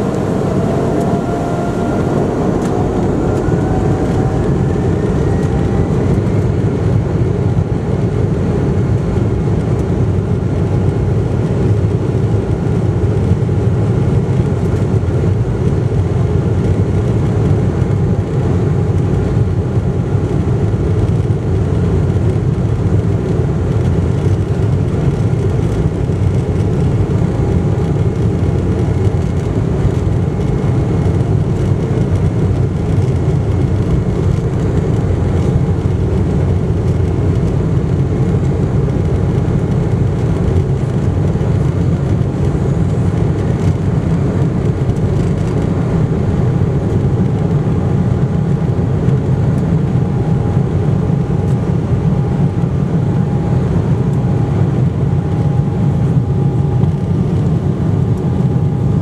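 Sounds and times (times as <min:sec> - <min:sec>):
jet engines rumbling: 0:00.0 - 0:59.0
runway and airflow noise: 0:00.0 - 0:59.0.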